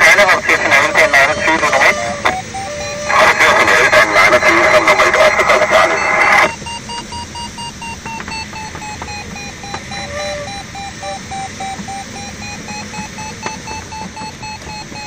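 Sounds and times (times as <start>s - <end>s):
variometer beeping rapidly: 0.0s - 15.0s.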